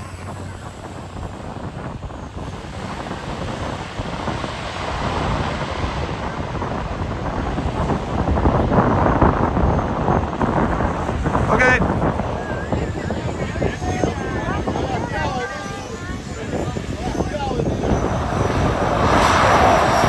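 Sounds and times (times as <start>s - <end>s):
airplane engine overhead: 0.0s - 20.0s
wind buffeting microphone: 0.0s - 20.0s.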